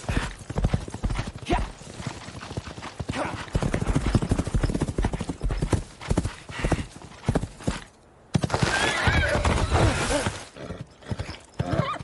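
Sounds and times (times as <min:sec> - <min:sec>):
horses galloping: 0:00.0 - 0:12.0.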